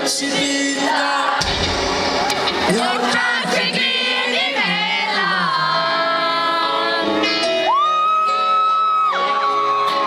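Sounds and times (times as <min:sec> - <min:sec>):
audience screaming and cheering: 0:00.0 - 0:10.0
live band music: 0:00.0 - 0:10.0.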